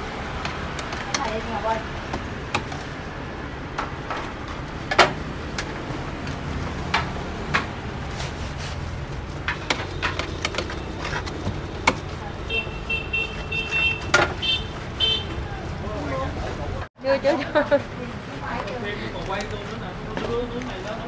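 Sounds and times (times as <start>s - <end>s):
street traffic hum: 0.0s - 21.0s.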